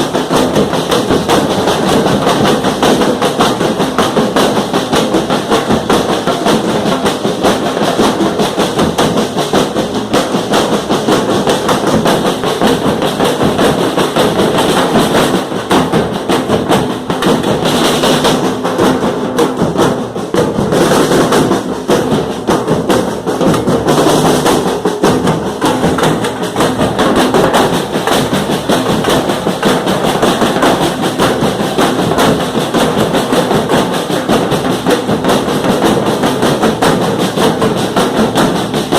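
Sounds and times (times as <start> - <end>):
fast percussion drumming: 0.0 - 38.9.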